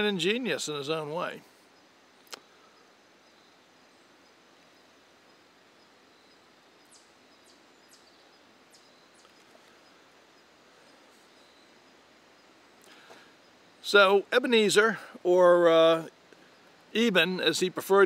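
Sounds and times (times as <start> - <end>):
bird chirping: 0.0 - 18.0
faint woodland ambience: 0.0 - 18.0.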